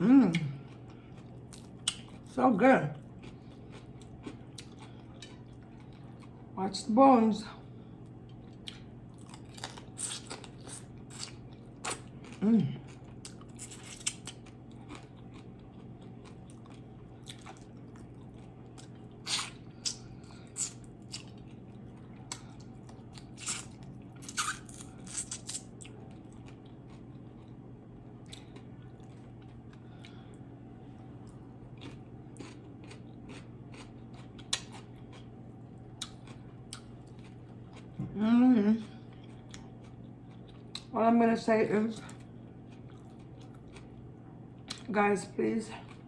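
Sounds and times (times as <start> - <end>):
faint steady hum: 0.0 - 46.0
chewing crisp fried fish: 0.3 - 2.4, 3.0 - 6.5, 8.0 - 38.0, 38.8 - 40.9, 42.0 - 44.9, 45.8 - 46.0.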